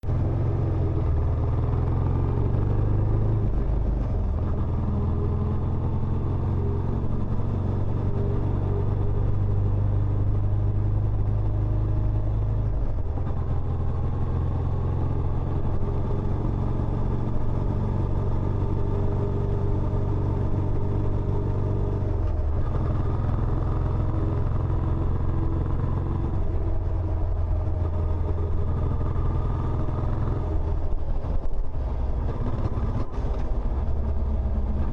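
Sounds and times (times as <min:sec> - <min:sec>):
single-cylinder motorcycle engine running: 0:00.0 - 0:34.9.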